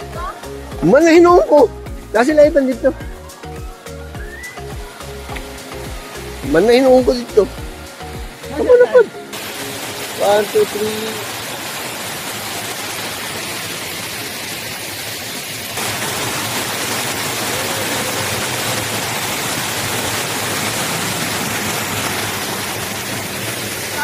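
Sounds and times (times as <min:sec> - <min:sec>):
waterfall cascading into pool: 0:00.0 - 0:24.0.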